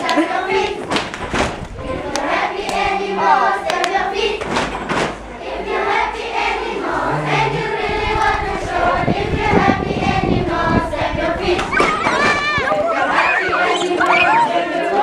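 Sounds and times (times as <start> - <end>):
choir singing: 0.0 - 0.9, 1.8 - 4.4, 5.3 - 15.0.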